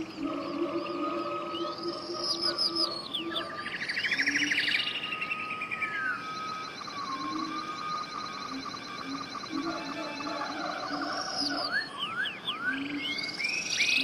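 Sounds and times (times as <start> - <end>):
bird trill: 0.0 - 14.0
long held bird whistle: 0.0 - 14.0
wild birds singing: 0.0 - 14.0.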